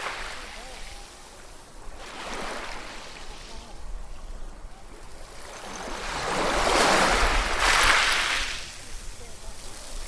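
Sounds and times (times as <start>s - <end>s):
ocean waves breaking on shore: 0.0s - 10.0s.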